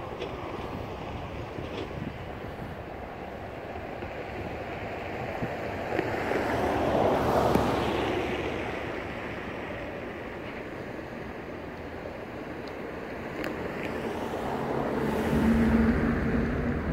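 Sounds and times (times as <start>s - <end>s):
flooded river rushing: 0.0s - 16.9s
wind: 0.0s - 16.9s.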